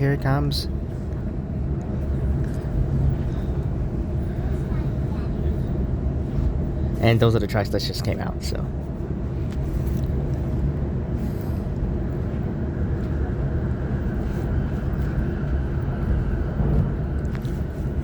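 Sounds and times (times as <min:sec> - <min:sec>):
faint train whine: 0:00.0 - 0:18.0
train wheels rumbling on track: 0:00.0 - 0:18.0.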